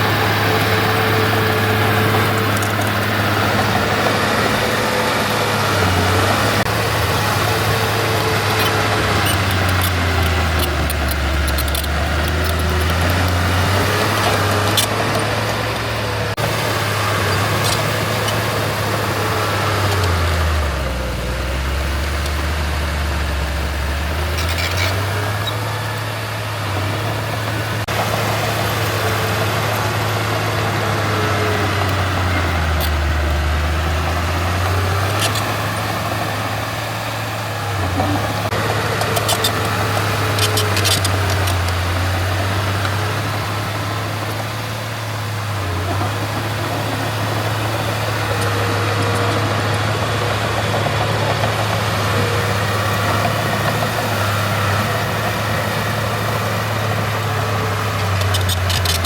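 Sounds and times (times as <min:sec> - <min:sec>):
diesel earthmoving machine lugging: 0:00.0 - 0:59.0.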